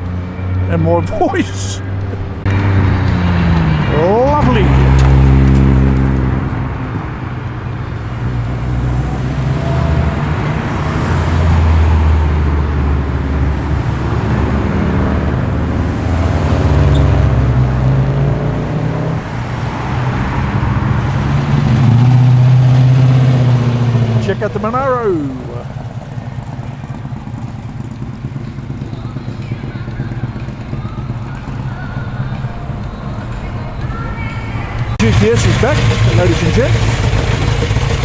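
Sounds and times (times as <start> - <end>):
car engines driving past: 0.0 - 38.0.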